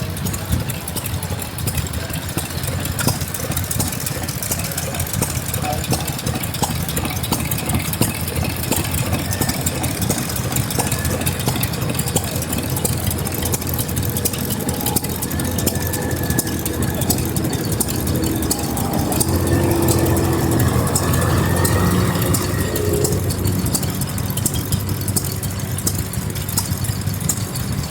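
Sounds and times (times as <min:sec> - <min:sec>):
stationary engines chugging: 0:00.0 - 0:27.9.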